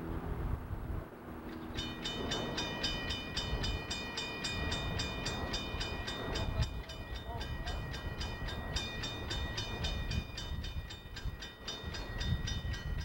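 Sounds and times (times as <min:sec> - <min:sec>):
steady high-pitched tone: 0:01.5 - 0:13.0
steam locomotive exhaust beats: 0:01.7 - 0:13.0.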